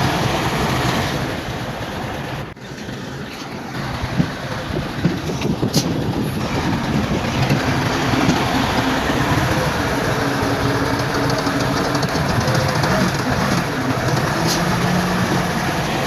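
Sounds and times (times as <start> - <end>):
bulldozer diesel engine running: 0.0 - 16.0
steel tracks clanking: 0.0 - 16.0.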